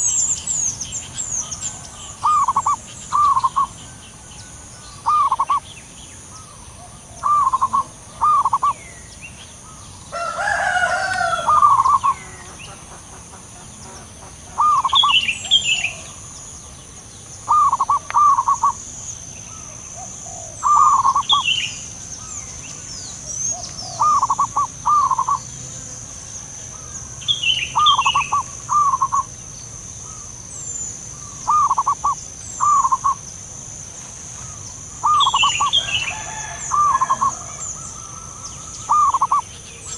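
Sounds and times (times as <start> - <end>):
doves cooing: 1.3 - 5.6, 6.4 - 8.8, 9.6 - 16.5, 17.4 - 29.4, 31.1 - 33.2, 34.4 - 39.9.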